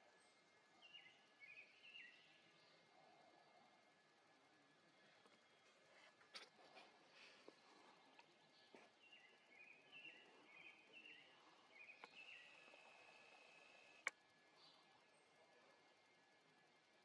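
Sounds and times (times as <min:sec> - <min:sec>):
bird chirping: 0:00.0 - 0:03.8, 0:04.9 - 0:15.7.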